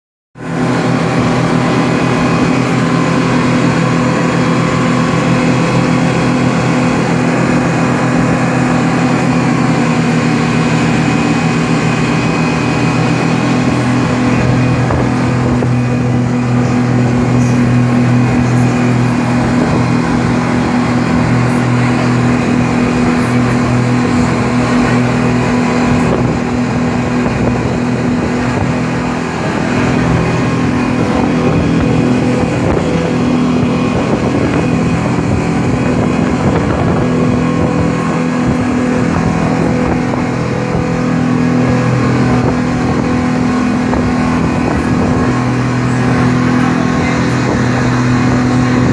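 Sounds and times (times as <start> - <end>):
engine humming: 0.4 - 48.9.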